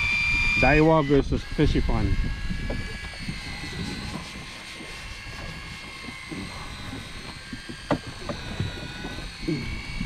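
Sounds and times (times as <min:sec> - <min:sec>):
electric fishing reels whining: 0:00.0 - 0:10.0.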